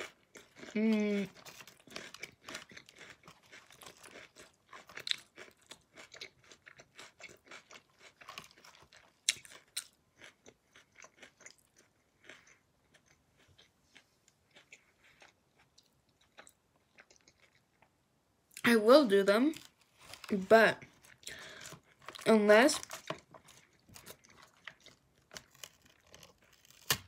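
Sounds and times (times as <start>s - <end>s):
chewing crisp lettuce: 0.0s - 17.9s, 19.5s - 27.0s.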